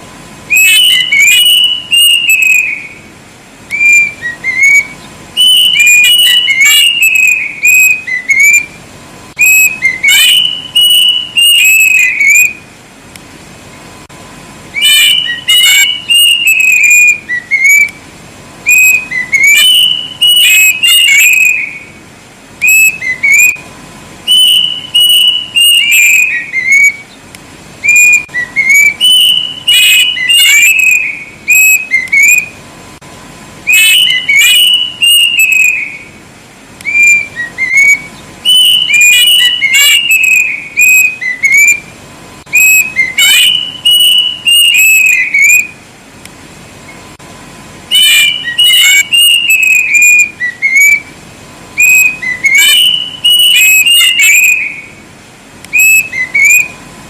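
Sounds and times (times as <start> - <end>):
cuckoo whistled song: 0.4 - 3.1, 3.7 - 8.8, 9.4 - 12.7, 14.7 - 18.0, 18.6 - 22.0, 22.6 - 32.6, 33.6 - 36.2, 36.8 - 41.9, 42.5 - 45.8, 47.9 - 51.2, 51.8 - 55.0, 55.7 - 56.8.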